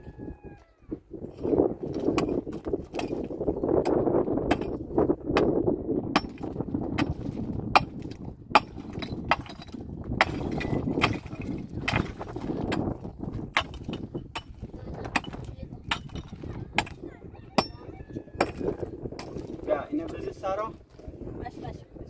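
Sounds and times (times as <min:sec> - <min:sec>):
steady low rumbling: 0:00.9 - 0:22.0.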